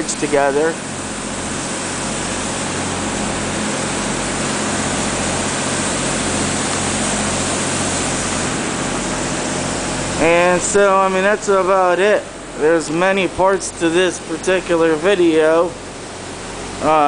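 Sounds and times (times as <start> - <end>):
construction machine hum: 0.0 - 17.0.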